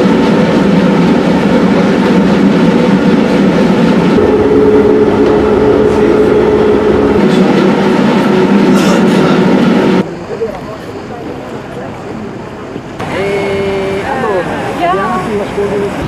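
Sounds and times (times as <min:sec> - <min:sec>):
bus rumble and rattle: 0:00.0 - 0:16.0
multi-tone hum: 0:00.0 - 0:16.0.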